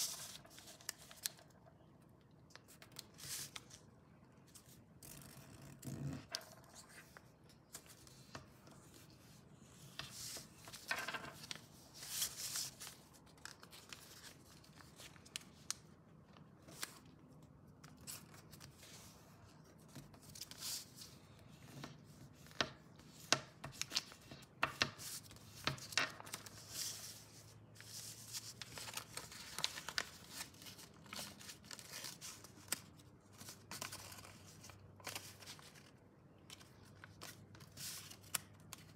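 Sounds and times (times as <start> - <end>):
paper being folded: 0.0 - 38.9.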